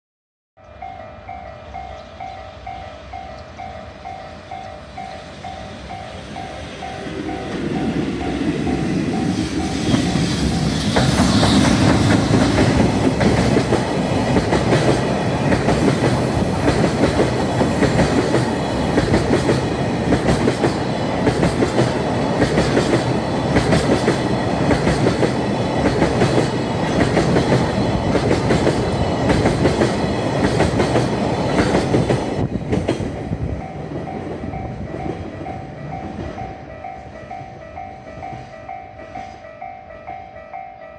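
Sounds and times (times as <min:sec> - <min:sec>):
electric locomotive rushing past: 0:00.7 - 0:40.9
train wheels clicking over rail joints: 0:03.3 - 0:36.4.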